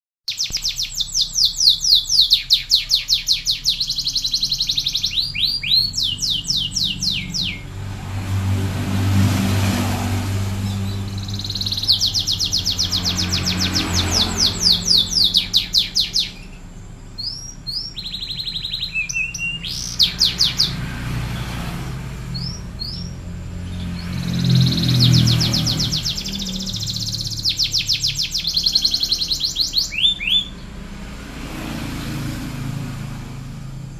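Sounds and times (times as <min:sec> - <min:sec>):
canary singing in trills: 0:00.3 - 0:33.6.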